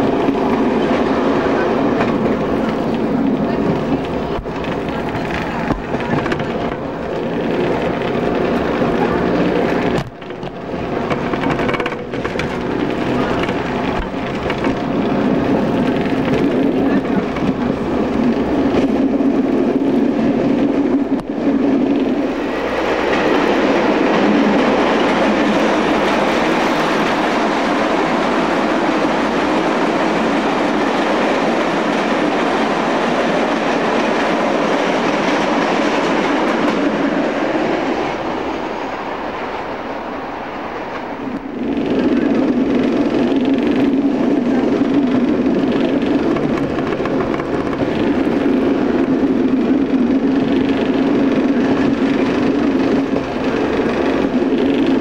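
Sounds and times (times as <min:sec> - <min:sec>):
train engine and wheels rumbling: 0:00.0 - 0:55.0.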